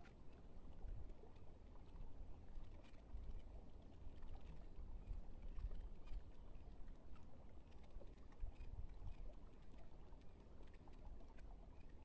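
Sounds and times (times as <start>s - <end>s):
faint ticks and rustles: 0.0s - 12.0s.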